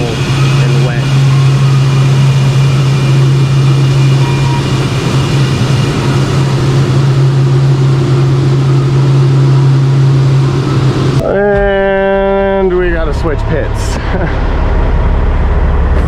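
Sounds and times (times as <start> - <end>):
machinery drone with low hum: 0.0 - 16.0.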